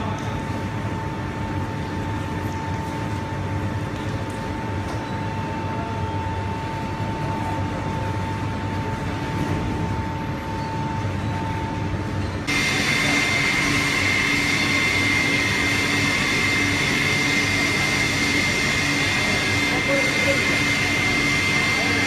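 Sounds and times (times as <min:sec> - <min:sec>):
industrial furnace hum and whine: 0:00.0 - 0:22.0.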